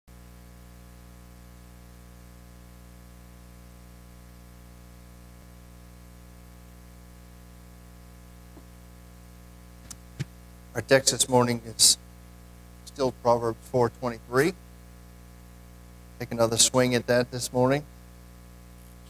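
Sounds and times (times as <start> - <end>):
electrical mains hum: 0.1 - 19.0.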